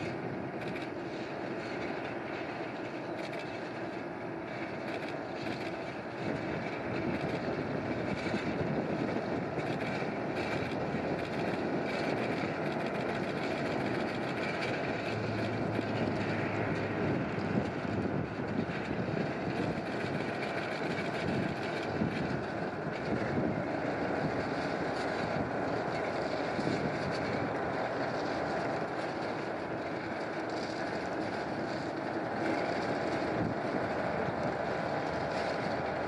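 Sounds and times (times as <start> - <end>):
train wagons rumbling and rattling: 0.0 - 36.0.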